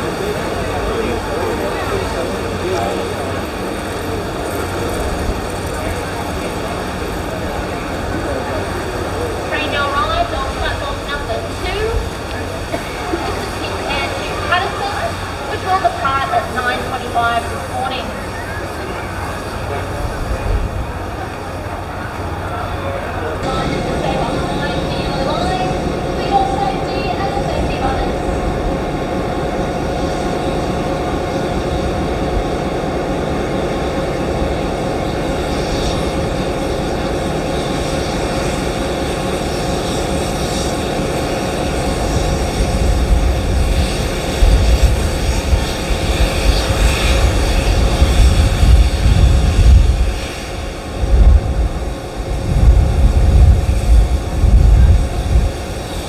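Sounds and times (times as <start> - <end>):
heavy low rumble: 0.0 - 56.0
steam hissing: 0.0 - 56.0
steam locomotive running: 0.0 - 56.0.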